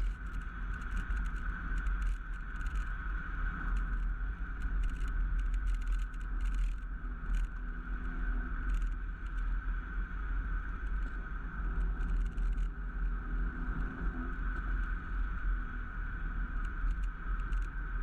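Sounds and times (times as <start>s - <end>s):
road and wind noise: 0.0s - 18.0s.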